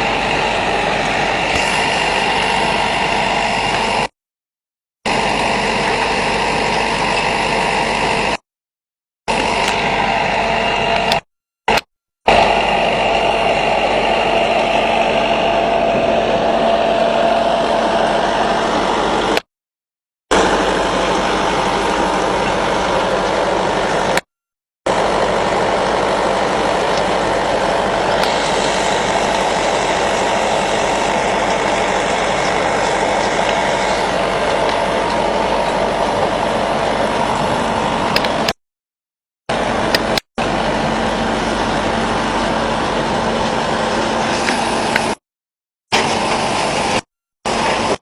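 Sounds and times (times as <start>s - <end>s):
plant machinery running: 0.0s - 4.1s, 5.1s - 8.4s, 9.3s - 19.5s, 20.3s - 24.3s, 24.9s - 38.6s, 39.5s - 45.2s, 45.9s - 48.0s.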